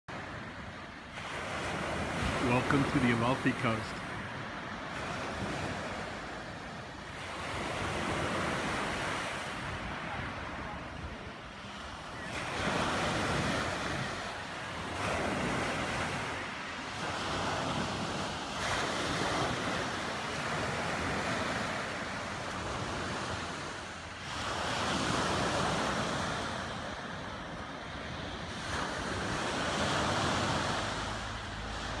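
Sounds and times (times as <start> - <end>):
sea surf breaking on beach: 0.1 - 32.0.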